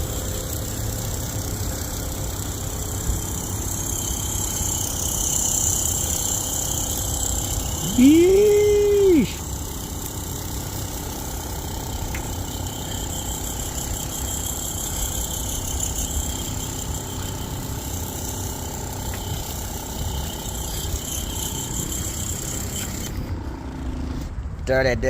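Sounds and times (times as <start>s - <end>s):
high whine: 0.0s - 24.9s
hvac unit humming: 0.0s - 25.0s.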